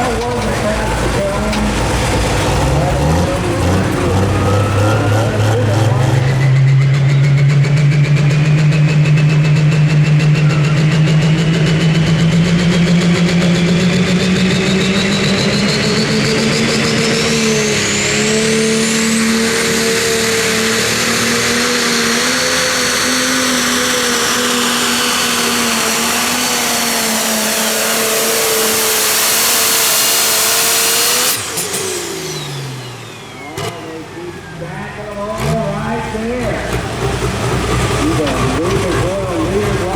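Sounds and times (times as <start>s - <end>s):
diesel engine at full throttle: 0.0s - 39.9s.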